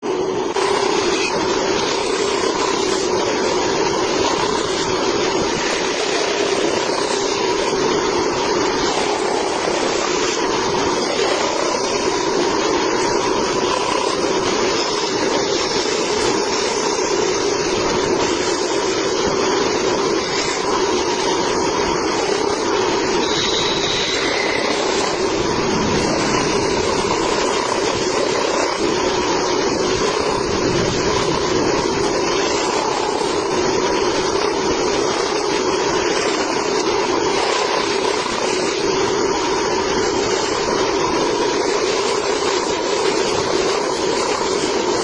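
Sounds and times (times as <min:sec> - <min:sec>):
band saw cutting wood: 0:00.0 - 0:44.6.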